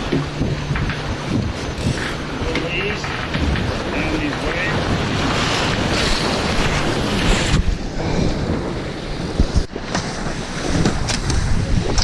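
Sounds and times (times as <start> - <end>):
water rushing along hull: 0.0 - 12.0
wind buffeting microphone: 0.0 - 12.0.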